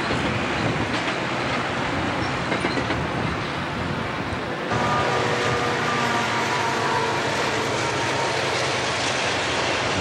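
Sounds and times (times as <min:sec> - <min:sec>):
train cars rolling on steel wheels: 0:00.0 - 0:10.0.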